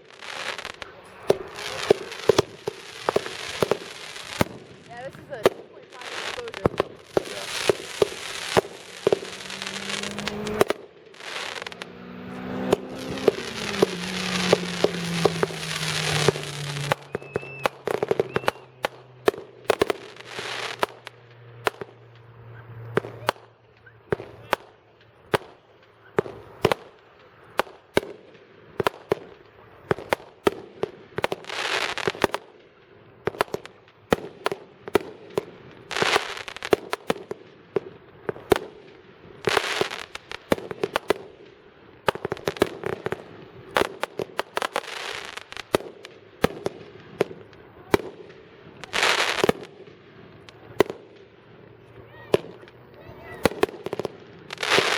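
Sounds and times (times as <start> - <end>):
fireworks hissing bursts: 0.0 - 22.1, 26.2 - 47.3, 48.0 - 50.8, 52.0 - 54.9
fireworks bangs and pops: 0.0 - 54.9.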